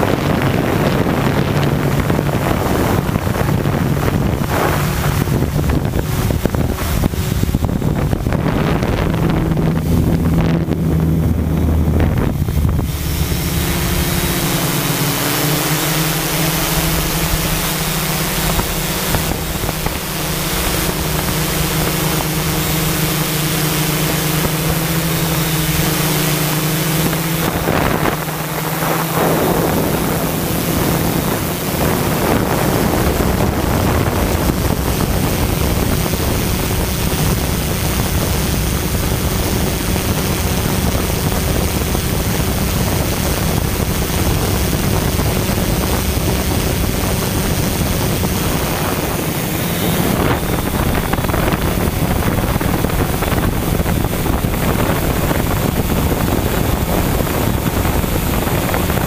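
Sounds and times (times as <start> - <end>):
drone propellers humming: 0.0 - 59.0
wind buffeting microphone: 0.0 - 59.0.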